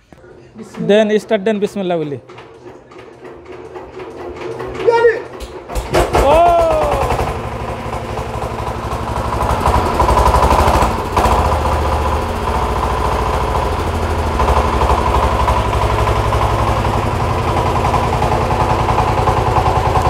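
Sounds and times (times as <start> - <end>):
diesel engine running: 0.6 - 20.0.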